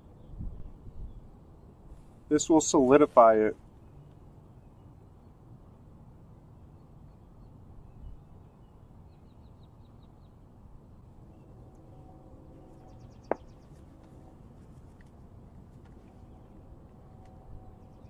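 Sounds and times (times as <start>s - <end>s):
low steady background noise: 0.0s - 18.0s.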